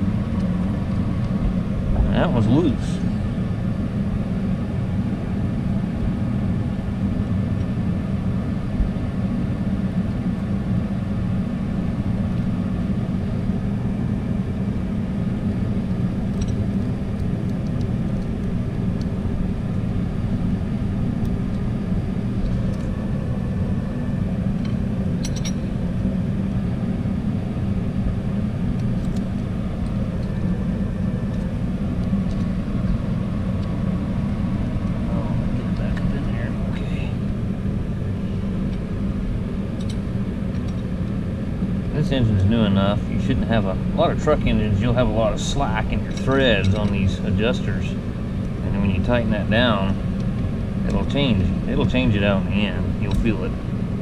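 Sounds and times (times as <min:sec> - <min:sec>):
low rumble of machinery: 0:00.0 - 0:54.0.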